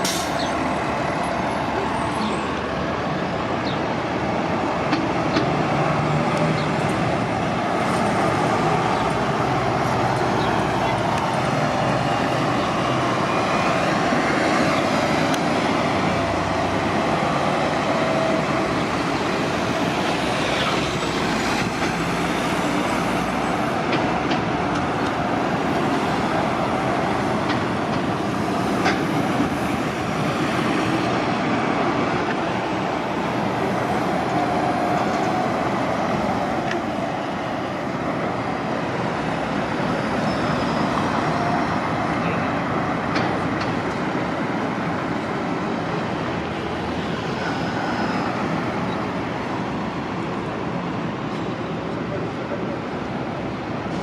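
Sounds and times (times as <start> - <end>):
bus engine drone: 0.0 - 54.0
traffic noise: 0.0 - 54.0.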